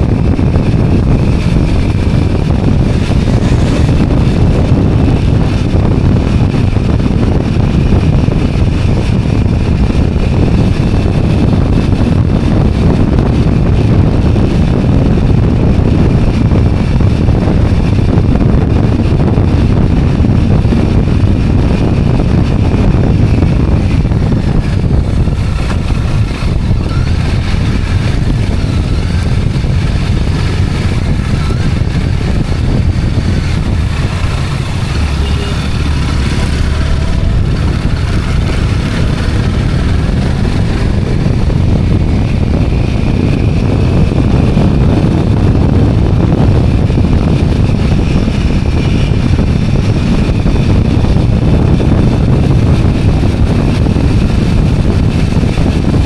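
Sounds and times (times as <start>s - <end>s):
motorbike engine drone: 0.0s - 56.0s
road and wind noise: 0.0s - 56.0s.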